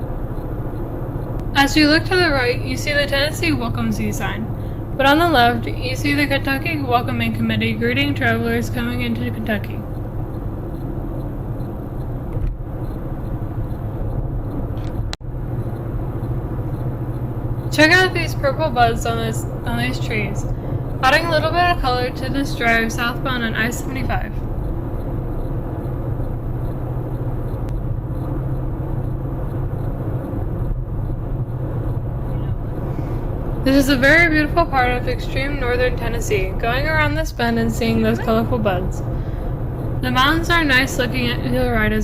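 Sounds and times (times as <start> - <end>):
road and tyre noise: 0.0 - 42.0.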